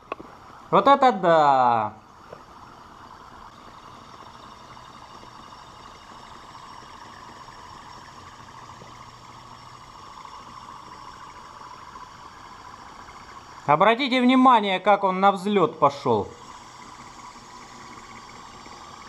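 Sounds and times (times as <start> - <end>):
small engine mechanical whir: 0.0 - 19.0.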